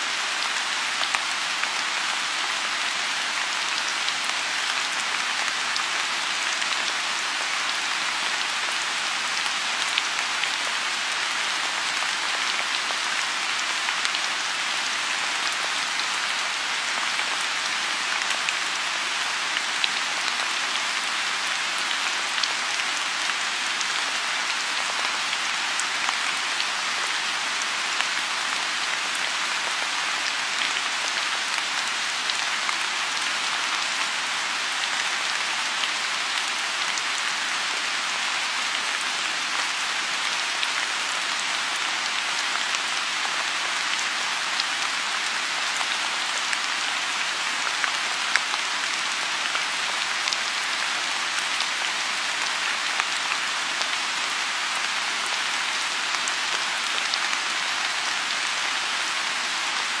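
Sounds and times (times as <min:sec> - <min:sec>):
rain falling on pond: 0:00.0 - 1:00.0.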